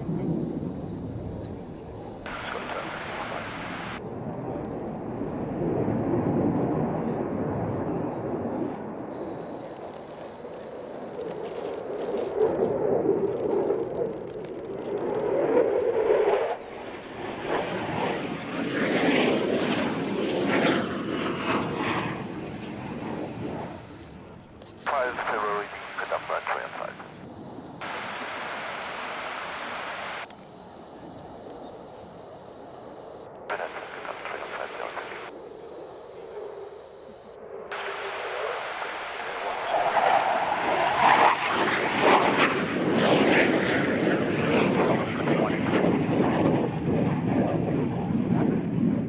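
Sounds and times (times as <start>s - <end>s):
aircraft engines rumbling: 0.0s - 49.0s.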